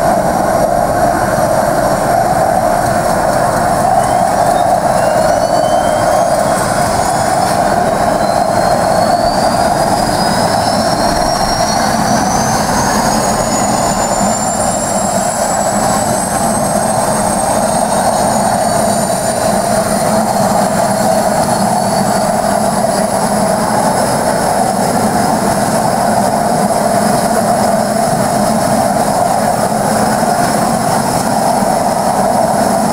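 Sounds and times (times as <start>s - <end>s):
propeller drone: 0.0s - 32.9s
turbine whine: 0.0s - 32.9s.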